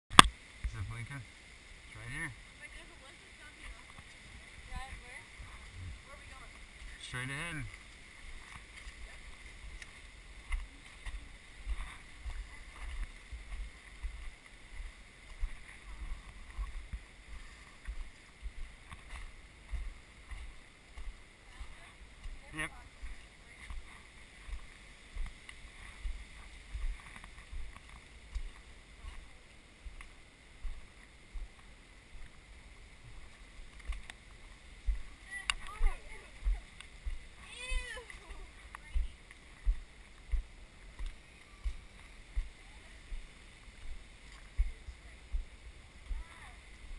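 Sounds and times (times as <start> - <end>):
faint steady hiss: 0.1 - 46.9
low fluctuating rumble: 1.7 - 41.0
footsteps on dirt trail: 2.1 - 46.9.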